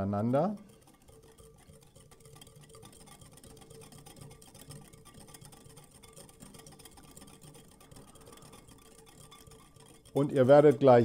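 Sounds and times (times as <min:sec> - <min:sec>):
wire whisk scraping glass bowl: 0:00.0 - 0:11.0.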